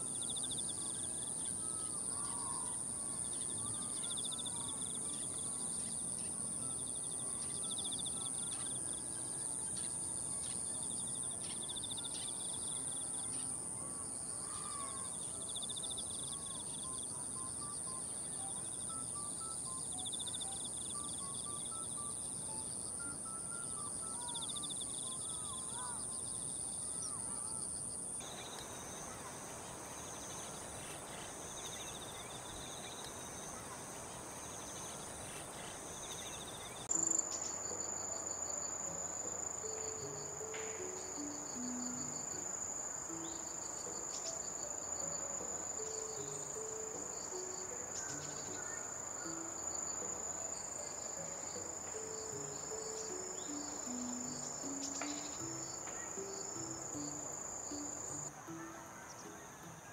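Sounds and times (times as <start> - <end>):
faint bird calls: 0.0 - 19.8, 20.4 - 59.4
insect chirping: 0.0 - 59.9
insect high steady trill: 0.0 - 59.9.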